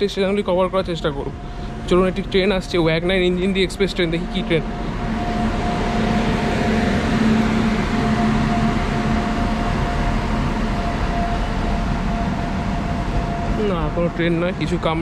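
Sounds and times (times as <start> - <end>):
electric locomotive humming: 0.0 - 15.0
wheels on rail: 0.0 - 15.0.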